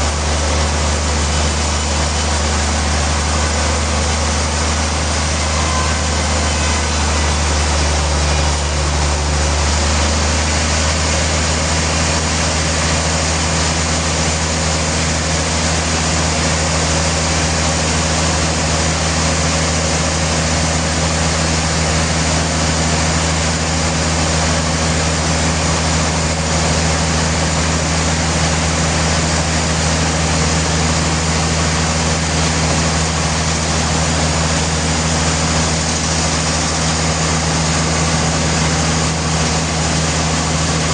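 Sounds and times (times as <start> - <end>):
sawmill machinery hum: 0.0 - 40.9.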